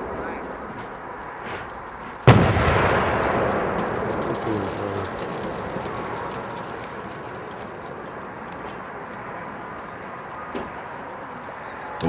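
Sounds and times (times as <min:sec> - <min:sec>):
low rumbling haze: 0:00.0 - 0:12.0
faint scattered firework pops: 0:01.5 - 0:11.2.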